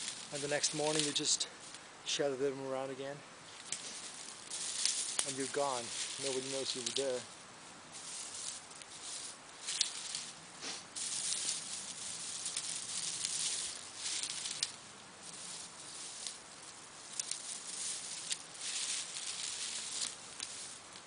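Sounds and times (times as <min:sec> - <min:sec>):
twigs and grass rustling: 0:00.0 - 0:21.0.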